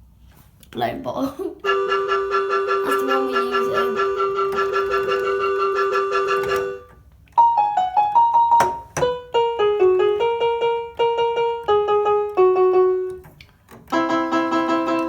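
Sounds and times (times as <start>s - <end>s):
electronic keyboard chord: 1.6s - 15.0s
keyboard melody of single notes: 1.6s - 15.0s.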